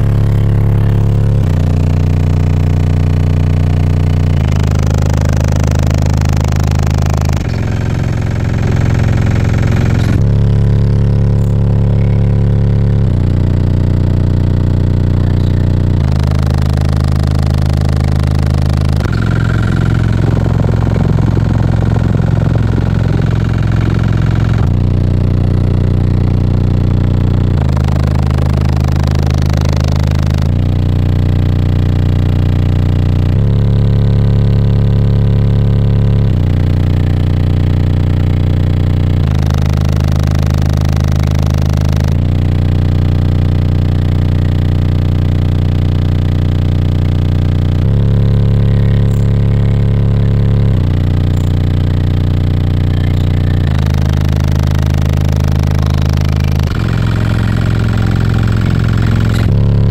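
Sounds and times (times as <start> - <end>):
bass-heavy music from car subwoofers: 0.0 - 59.9.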